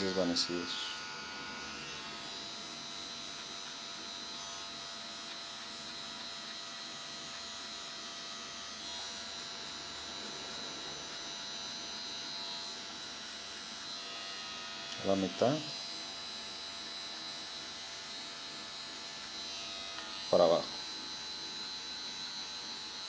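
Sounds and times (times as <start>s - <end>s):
hair clipper running: 0.0s - 23.0s.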